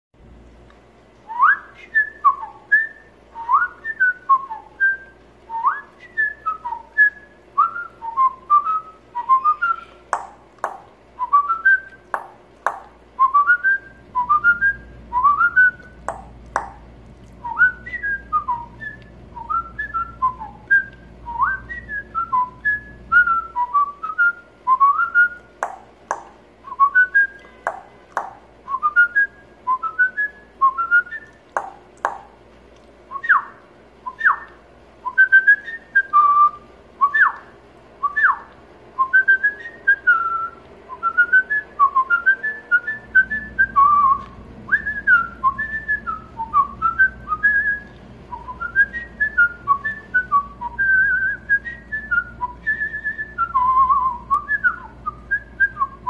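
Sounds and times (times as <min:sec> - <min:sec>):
person whistling a tune: 0:01.3 - 0:16.8, 0:17.4 - 0:32.3, 0:33.1 - 0:56.0.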